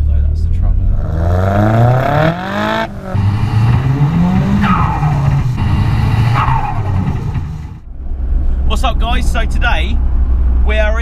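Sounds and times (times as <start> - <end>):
turbocharged engine accelerating: 0.0 - 10.9.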